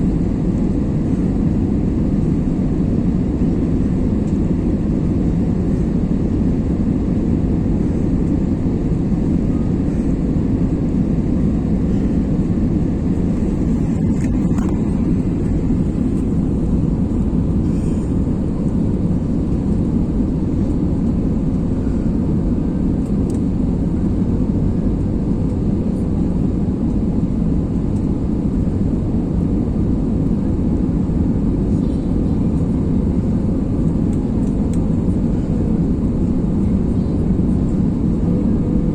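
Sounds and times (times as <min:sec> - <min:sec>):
airliner cabin engine rush: 0:00.0 - 0:38.9.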